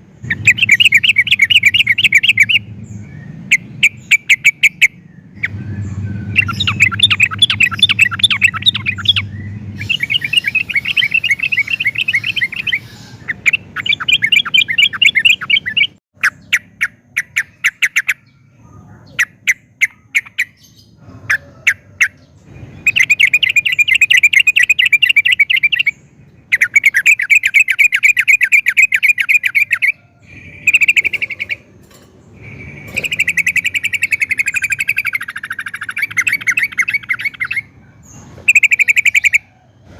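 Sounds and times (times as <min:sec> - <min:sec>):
bird singing fast chattering phrases: 0:00.0 - 0:39.5.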